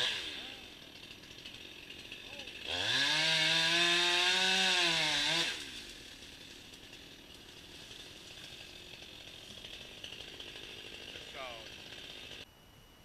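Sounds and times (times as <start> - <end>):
chainsaw at full throttle: 0.0 - 12.5.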